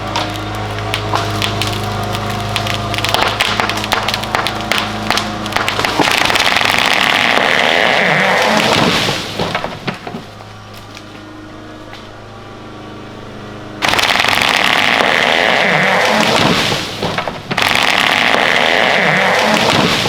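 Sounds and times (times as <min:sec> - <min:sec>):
sharp wood cracks: 0:00.0 - 0:12.2, 0:13.8 - 0:20.0
chainsaw revving and idling: 0:00.0 - 0:20.0.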